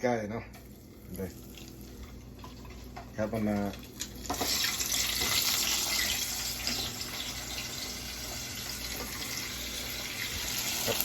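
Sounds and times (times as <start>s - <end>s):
food sizzling in hot oil: 0.7s - 11.0s.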